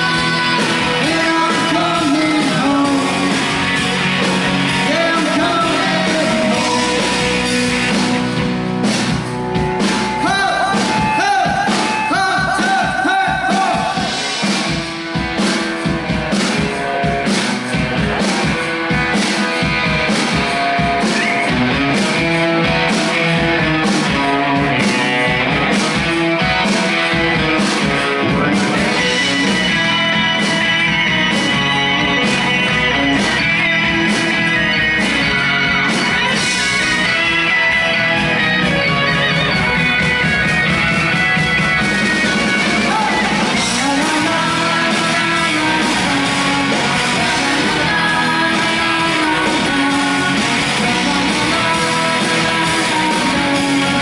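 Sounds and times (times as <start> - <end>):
bass guitar: 0.0 - 54.0
drum kit with cymbal hits: 0.0 - 54.0
electric guitars: 0.0 - 54.0.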